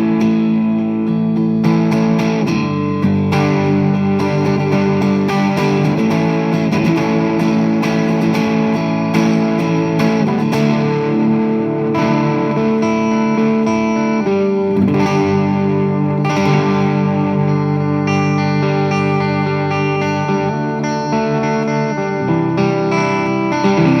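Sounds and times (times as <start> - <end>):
overdriven electric guitar chords: 0.0 - 24.0.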